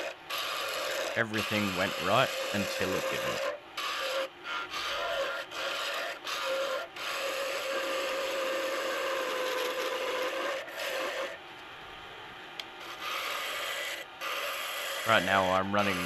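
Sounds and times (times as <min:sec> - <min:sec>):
lathe tool scraping wood: 0:00.0 - 0:11.4, 0:12.8 - 0:16.0
lathe motor hum: 0:00.0 - 0:11.7, 0:12.6 - 0:16.0.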